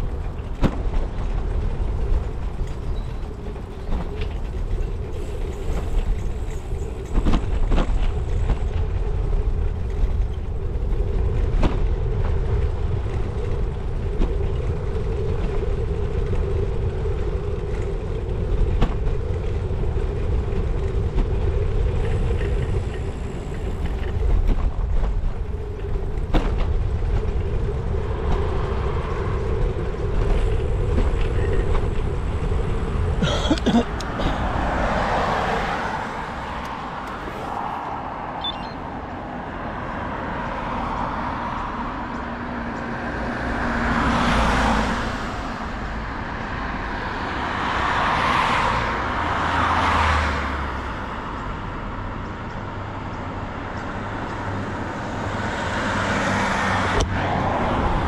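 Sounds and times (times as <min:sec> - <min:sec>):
constant hum: 0:00.0 - 0:47.7
traffic noise: 0:00.0 - 0:58.0
wind and tyres on tarmac: 0:00.0 - 0:58.0.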